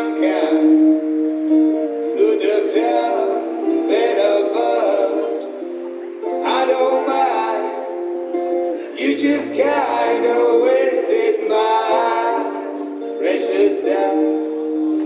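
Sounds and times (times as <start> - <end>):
street music with held chords: 0.0 - 15.0.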